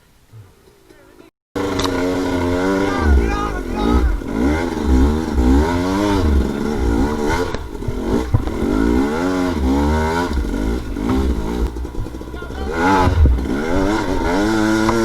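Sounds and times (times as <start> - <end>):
dirt bike engine revving: 1.6 - 15.0.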